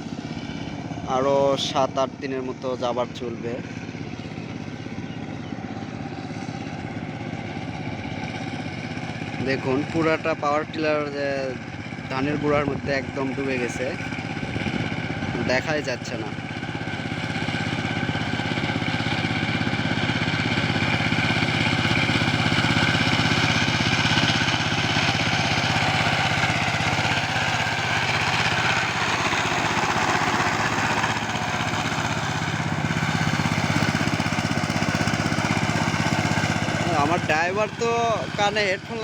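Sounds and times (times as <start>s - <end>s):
power tiller engine running: 0.0s - 39.0s
rotary blades churning stubble: 7.6s - 39.0s.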